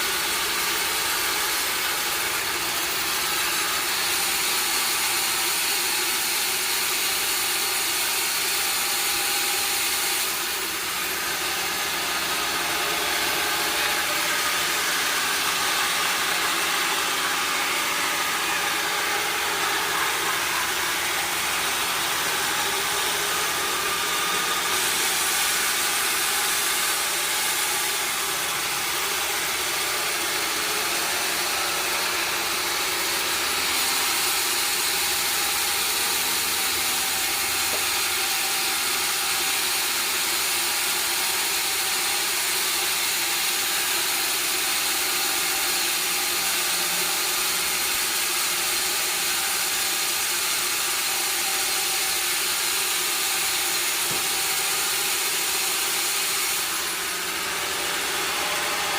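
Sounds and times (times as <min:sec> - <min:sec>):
sawmill machinery droning: 0:00.0 - 0:58.9.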